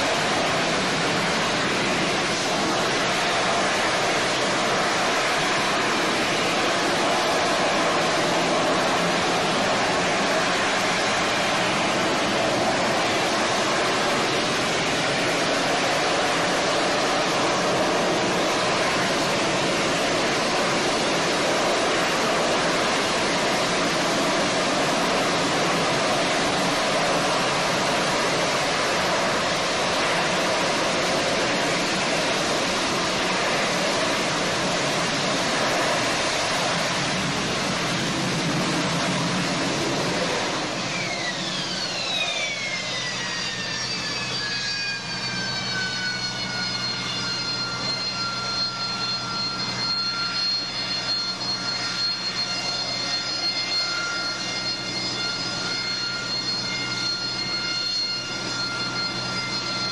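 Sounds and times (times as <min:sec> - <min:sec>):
jet engine rushing roar: 0:00.0 - 0:59.9.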